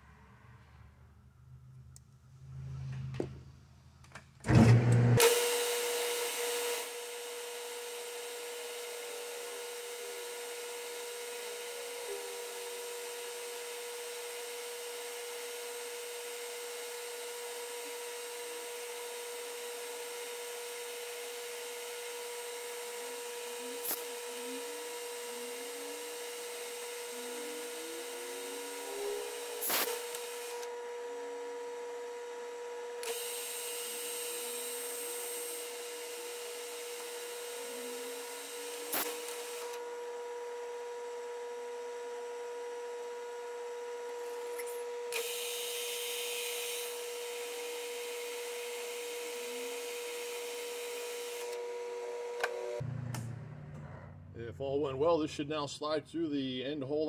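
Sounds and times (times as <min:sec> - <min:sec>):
lathe whining: 0:04.5 - 0:55.2.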